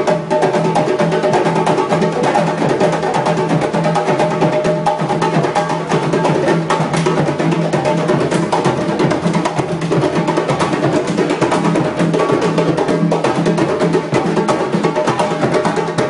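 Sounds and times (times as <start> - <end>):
drum circle fast rhythm: 0.0 - 16.0.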